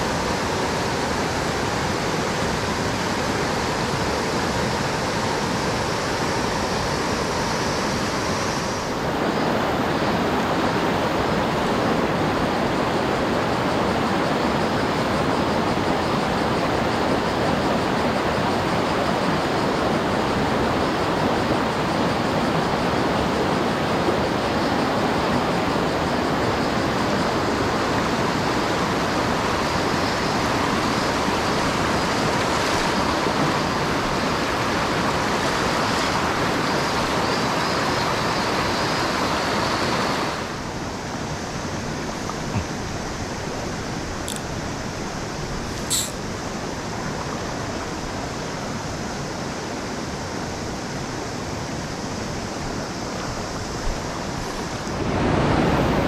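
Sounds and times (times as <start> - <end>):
rushing mountain stream: 0.0 - 56.0.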